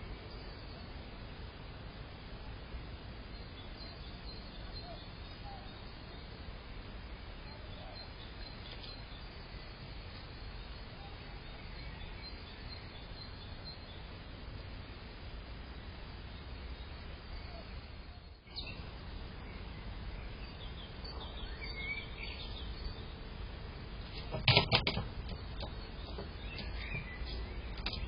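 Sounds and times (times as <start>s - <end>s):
outdoor background hiss: 0.0s - 28.0s
small birds chirping: 3.0s - 14.8s, 15.7s - 28.0s.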